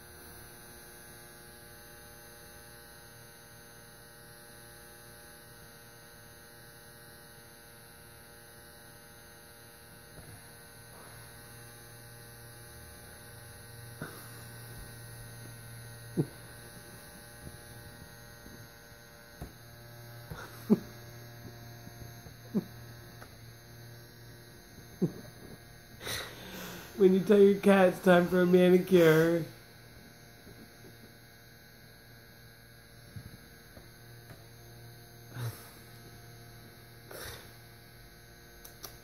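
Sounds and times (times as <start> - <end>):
electric nail file buzzing: 0.0 - 39.0.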